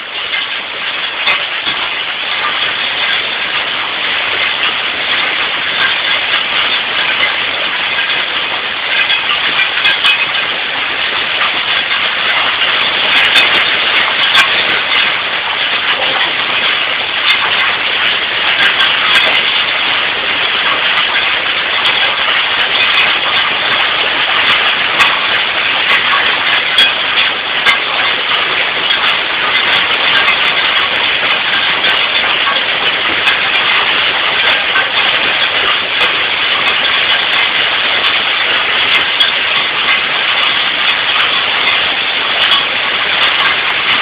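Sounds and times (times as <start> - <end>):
hailstones clicking: 0.0 - 44.0
heavy rain hissing: 0.0 - 44.0.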